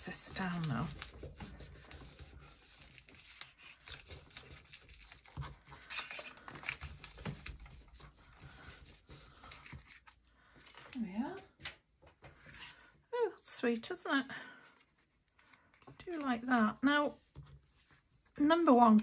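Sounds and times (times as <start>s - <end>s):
paper rustling under hands: 0.0s - 12.9s, 14.6s - 18.4s.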